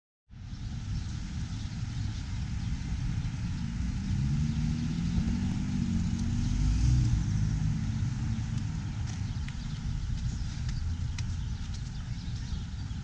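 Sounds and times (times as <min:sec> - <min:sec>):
low rumble: 0:00.3 - 0:13.0
car engine hum passing: 0:00.9 - 0:13.0.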